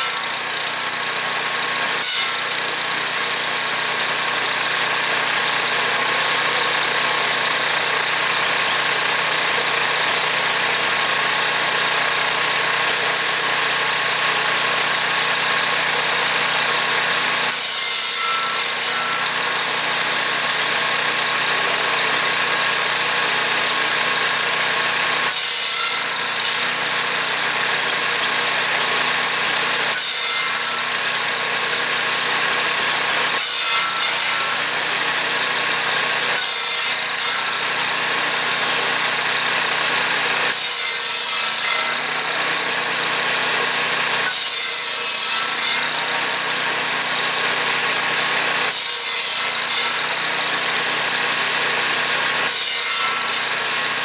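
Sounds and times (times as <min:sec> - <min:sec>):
circular saw cutting wood: 0:00.0 - 0:54.0.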